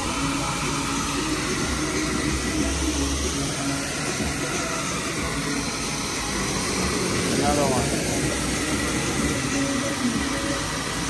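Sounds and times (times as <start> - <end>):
car engine running: 0.0 - 11.0
water hissing from fire hydrant: 0.0 - 11.0.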